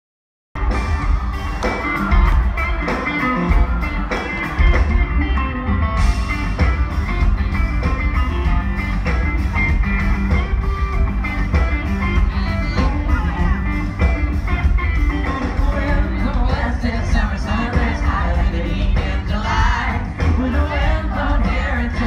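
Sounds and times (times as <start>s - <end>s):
live rock band playing: 0.6s - 22.0s.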